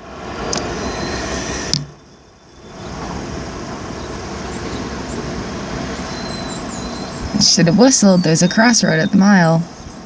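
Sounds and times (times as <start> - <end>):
distant train passing: 0.0 - 10.0.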